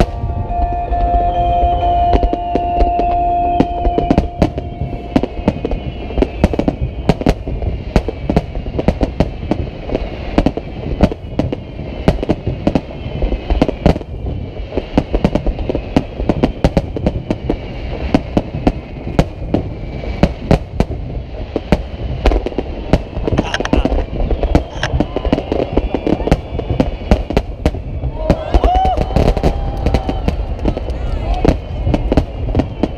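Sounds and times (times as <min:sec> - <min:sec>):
fireworks bursting and crackling: 0:00.0 - 0:32.9.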